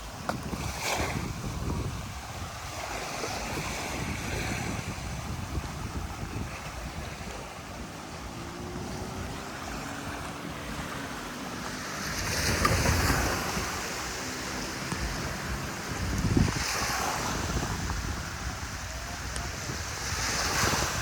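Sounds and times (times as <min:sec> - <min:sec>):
sea surf washing onto beach: 0:00.0 - 0:21.0
wave breaking: 0:00.0 - 0:21.0
wind buffeting microphone: 0:00.0 - 0:21.0.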